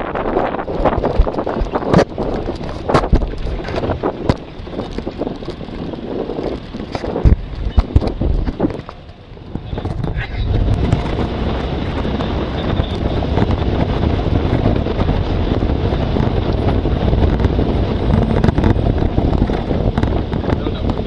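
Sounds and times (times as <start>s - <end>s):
vehicle rumbling: 0.0s - 21.0s
wind buffeting microphone: 0.0s - 21.0s.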